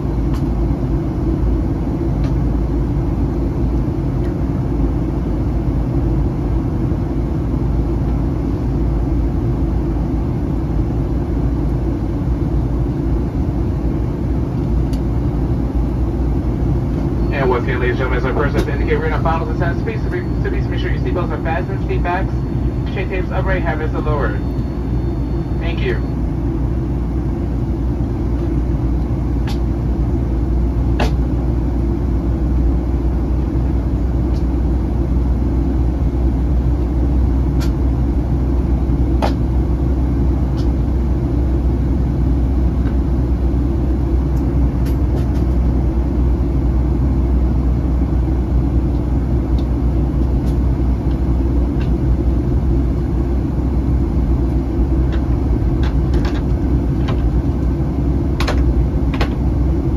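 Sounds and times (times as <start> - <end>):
air rushing along fuselage: 0.0 - 59.9
airplane cabin engine roar: 0.0 - 59.9.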